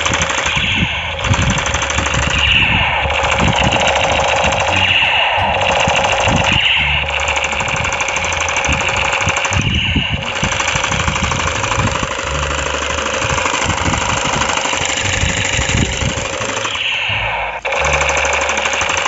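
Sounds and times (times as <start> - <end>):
toy gun electronic firing rattle: 0.0 - 17.0, 17.6 - 19.0.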